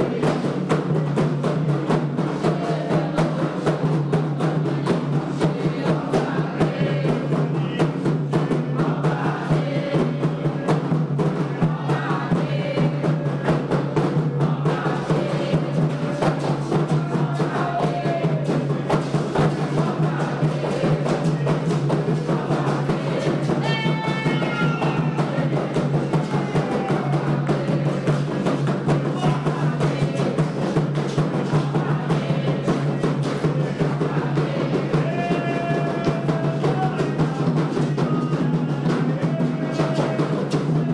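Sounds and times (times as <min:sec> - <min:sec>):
hand drums playing fast rhythm: 0:00.0 - 0:40.9
voices singing: 0:00.0 - 0:40.9.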